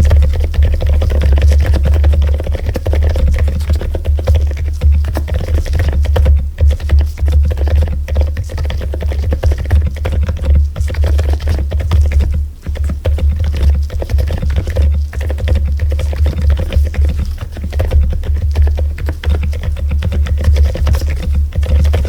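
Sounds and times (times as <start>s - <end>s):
fast typing on mechanical keyboard: 0.0s - 22.0s.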